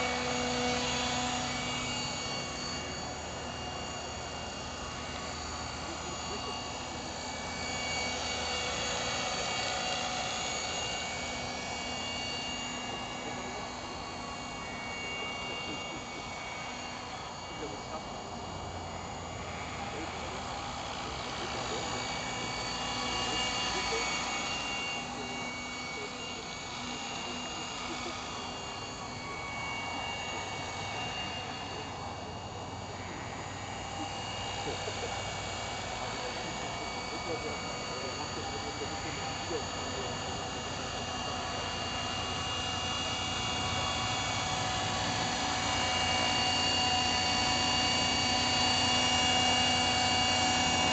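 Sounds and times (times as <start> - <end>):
rc helicopter whine: 0.0 - 50.9
rotor blades rushing: 0.0 - 50.9.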